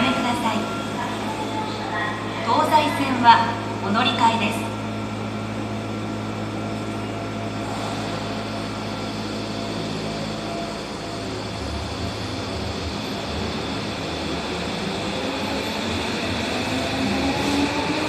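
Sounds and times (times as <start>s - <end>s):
subway train hum: 0.0s - 18.0s
train rumbling as it accelerates: 0.0s - 18.0s.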